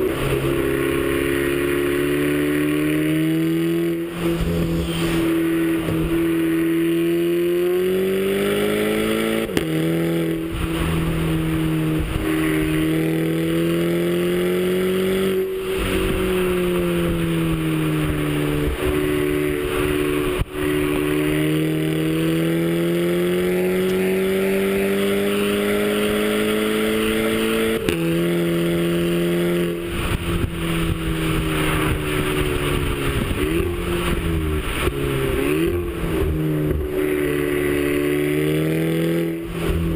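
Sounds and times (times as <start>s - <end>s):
turbocharged car engine running: 0.0s - 39.9s.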